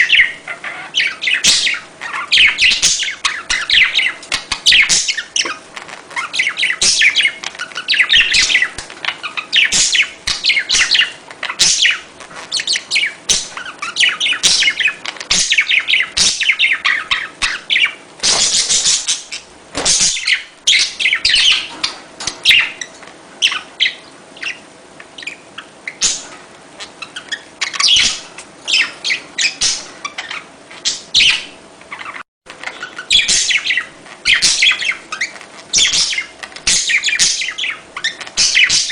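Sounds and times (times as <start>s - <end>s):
budgerigars chattering: 0.0s - 5.6s, 6.2s - 24.6s, 25.2s - 38.9s.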